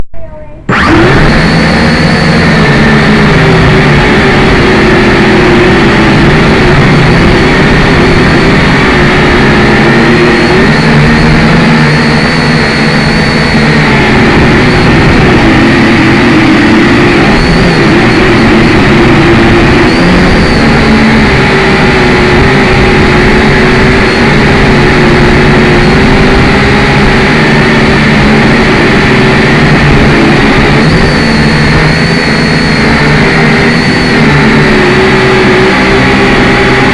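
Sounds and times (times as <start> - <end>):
quadcopter propellers whirring: 0.6 - 36.9.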